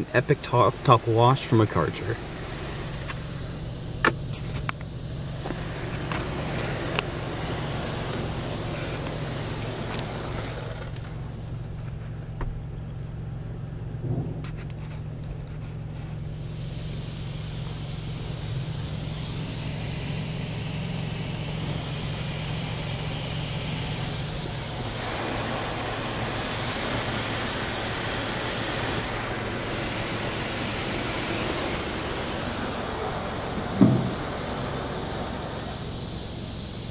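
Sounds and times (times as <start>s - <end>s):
low machine hum: 0.0s - 36.9s
water jets spraying car: 0.0s - 36.9s.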